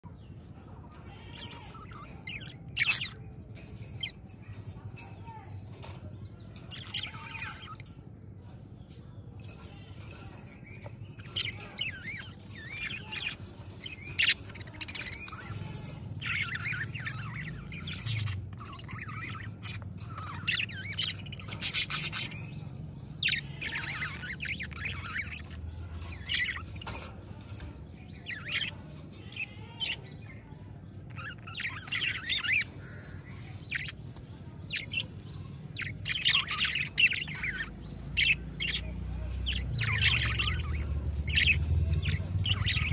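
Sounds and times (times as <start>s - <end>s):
budgerigars chirping: 1.0s - 6.0s, 6.6s - 8.0s, 9.6s - 42.9s.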